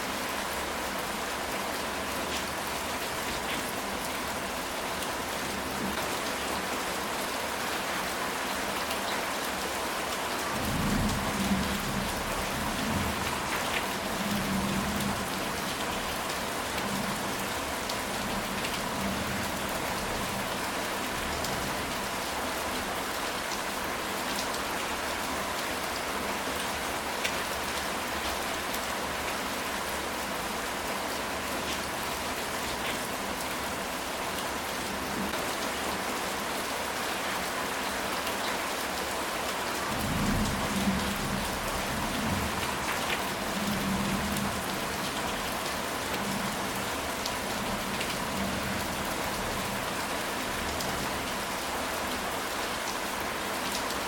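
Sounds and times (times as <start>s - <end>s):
rain on a tile roof: 0.0s - 54.0s.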